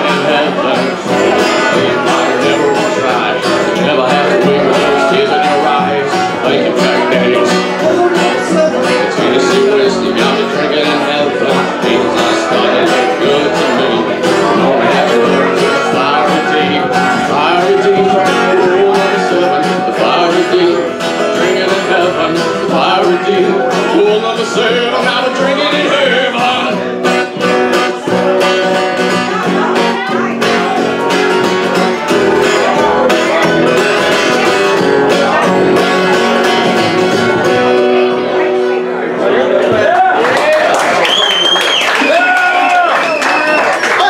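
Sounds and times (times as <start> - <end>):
upright bass: 0.0 - 41.0
acoustic guitar strumming and picking: 0.0 - 44.0.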